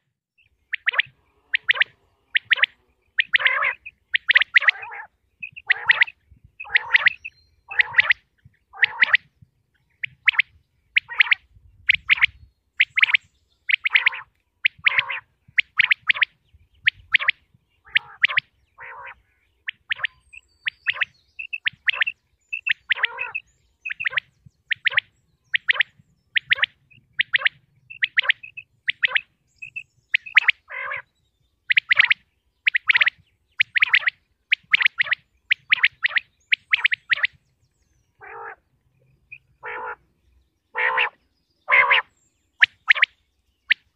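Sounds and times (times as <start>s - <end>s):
quail calling: 0.7s - 9.3s, 10.0s - 31.1s, 31.7s - 37.4s, 38.2s - 38.6s, 39.3s - 40.0s, 40.7s - 43.9s.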